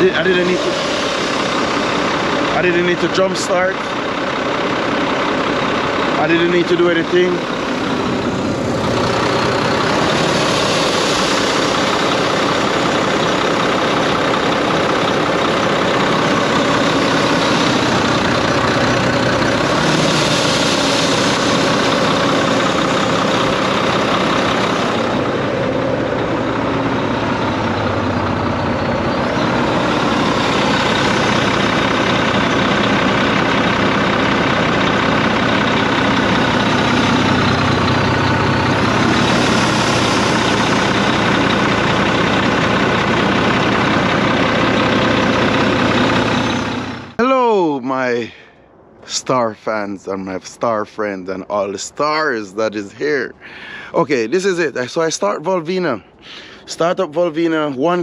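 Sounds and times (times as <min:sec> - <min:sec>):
diesel engine idling: 0:00.0 - 0:49.8, 0:50.6 - 0:58.0.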